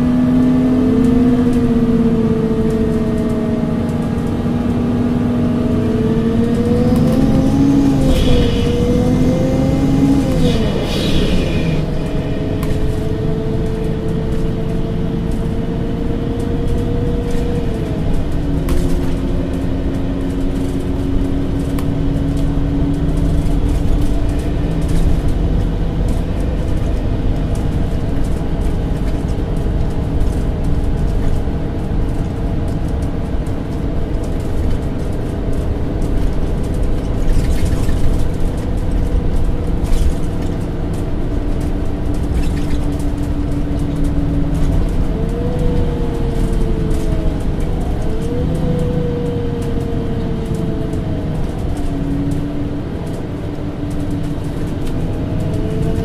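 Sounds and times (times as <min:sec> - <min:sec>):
bus engine drone: 0:00.0 - 0:56.0
road rumble: 0:00.0 - 0:56.0.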